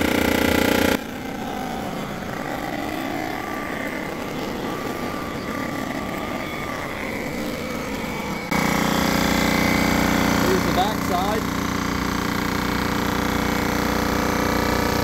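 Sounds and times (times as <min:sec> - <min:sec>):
machine cutter head cutting metal: 0:00.0 - 0:15.0.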